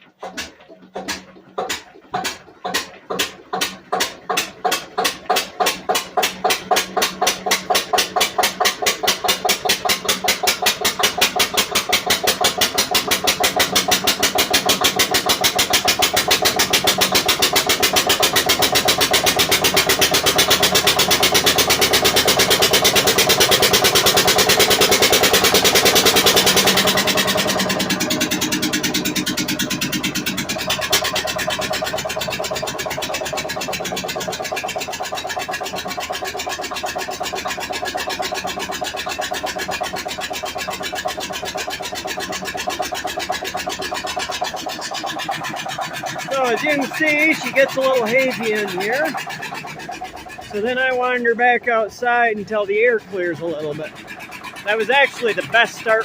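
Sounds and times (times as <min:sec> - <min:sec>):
diesel engine starting: 0:00.0 - 0:56.0.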